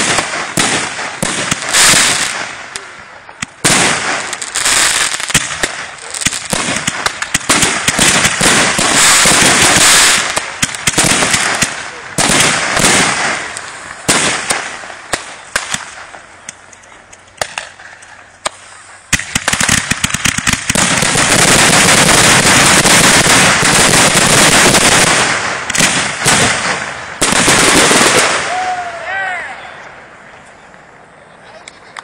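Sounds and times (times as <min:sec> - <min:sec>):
firework crackle: 0:00.0 - 0:29.2
firework bangs: 0:00.0 - 0:29.4.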